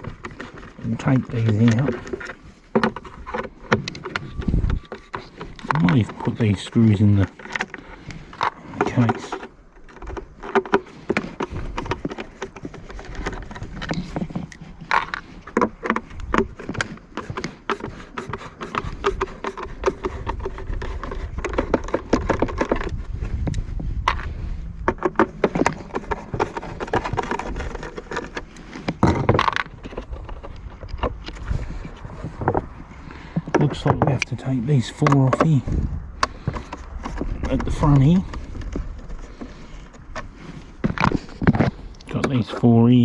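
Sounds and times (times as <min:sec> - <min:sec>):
plastic housing being handled: 0:00.0 - 0:42.4
hand tools clicking and scraping: 0:00.0 - 0:43.0.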